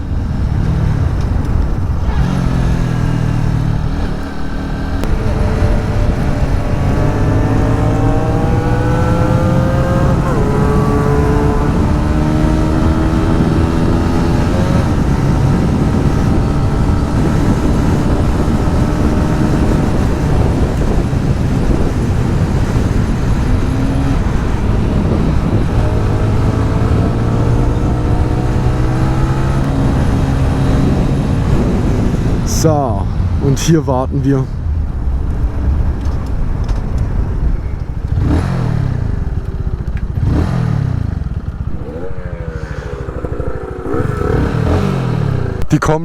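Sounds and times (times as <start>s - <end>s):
motorcycle engine accelerating: 0.0s - 32.5s, 35.1s - 46.0s
wind on microphone: 0.0s - 33.4s, 34.6s - 46.0s.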